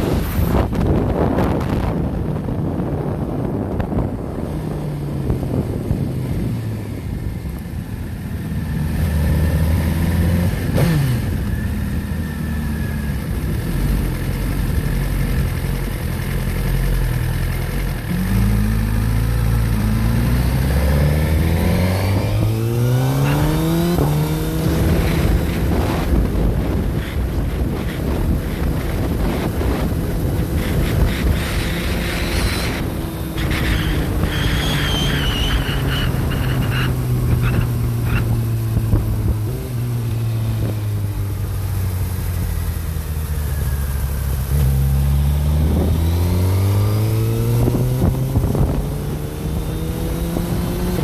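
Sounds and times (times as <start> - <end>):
wind rushing over microphone: 0.0 - 14.0, 18.0 - 41.8, 43.6 - 51.0
motorcycle engine accelerating: 0.0 - 51.0.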